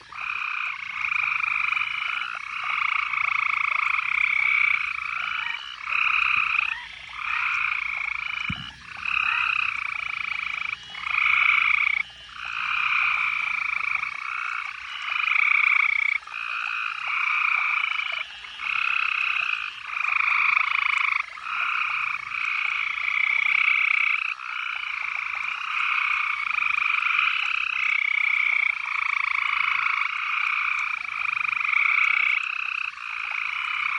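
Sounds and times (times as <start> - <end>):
frogs calling: 0.0 - 33.9.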